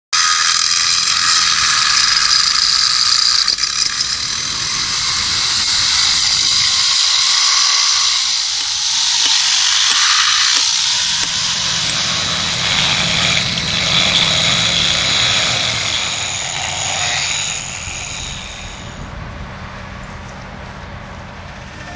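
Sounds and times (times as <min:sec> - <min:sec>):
power tools grinding marble: 0:00.1 - 0:19.1.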